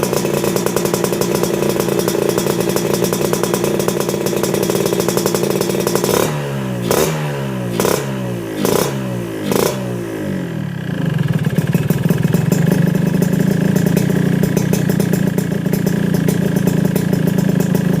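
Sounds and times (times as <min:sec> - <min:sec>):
two-stroke motorcycle engine revving: 0:00.0 - 0:18.0.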